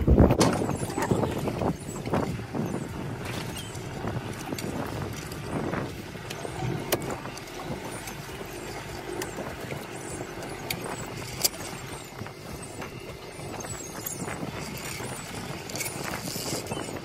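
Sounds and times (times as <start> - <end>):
fishing boat engine running: 0.0 - 17.0.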